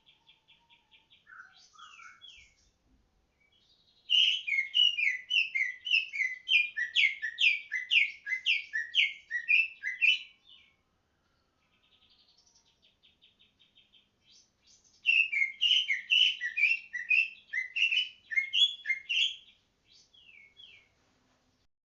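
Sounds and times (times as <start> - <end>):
bird singing whistled notes: 0.0 - 2.6, 3.4 - 10.7, 11.9 - 20.9.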